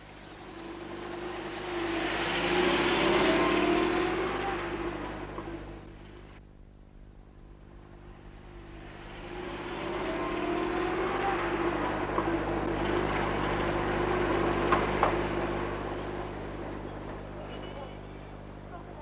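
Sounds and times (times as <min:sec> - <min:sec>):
car driving by: 0:00.0 - 0:06.4, 0:07.5 - 0:18.0.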